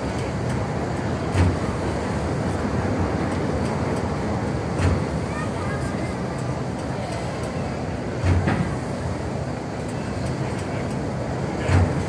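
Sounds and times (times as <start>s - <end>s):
fairground ride rumble: 0.0s - 12.0s.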